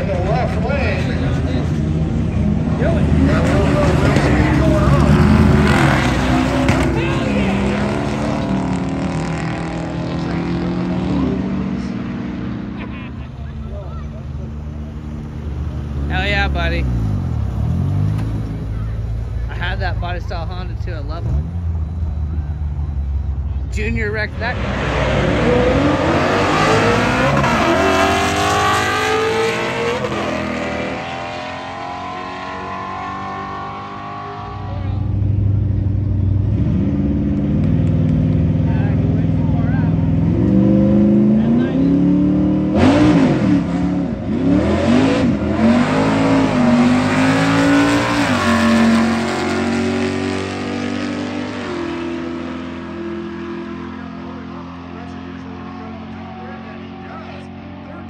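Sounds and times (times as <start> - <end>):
drag racing cars accelerating: 0.0 - 23.2, 23.8 - 58.0.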